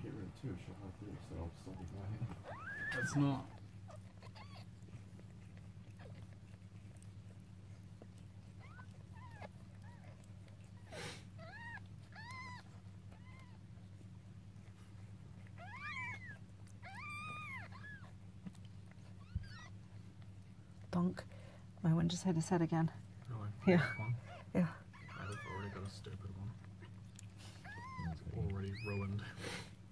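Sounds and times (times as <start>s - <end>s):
kittens mewing: 0.2s - 13.9s, 15.4s - 20.0s, 23.2s - 29.9s.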